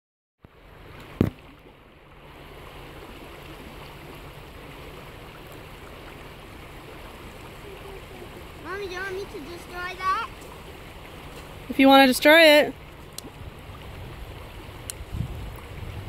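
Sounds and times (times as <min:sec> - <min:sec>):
river water rushing: 0:00.5 - 0:16.0.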